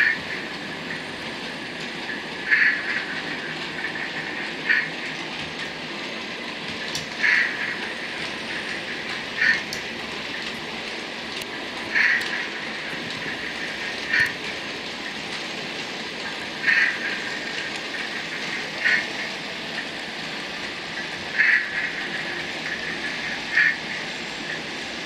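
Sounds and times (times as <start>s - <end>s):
model train whirring rattle: 0.0s - 25.0s.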